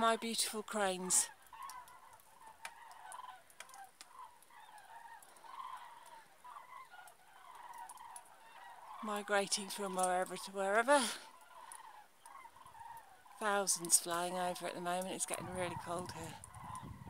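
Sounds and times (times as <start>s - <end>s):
cranes trumpeting calls: 0.0s - 17.0s.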